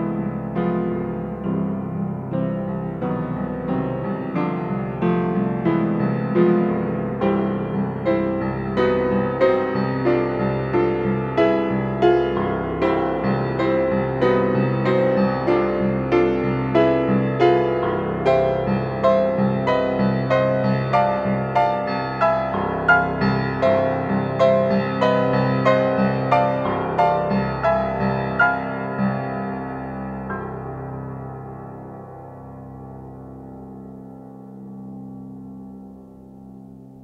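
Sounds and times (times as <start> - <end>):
slow piano ballad: 0.0 - 37.0.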